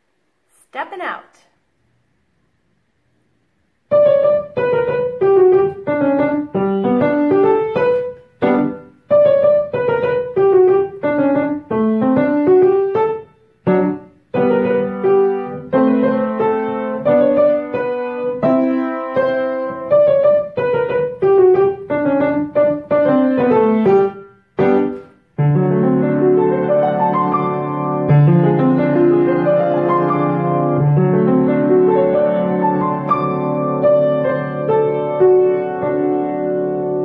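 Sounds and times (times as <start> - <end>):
piano melody over chords: 3.9 - 37.0.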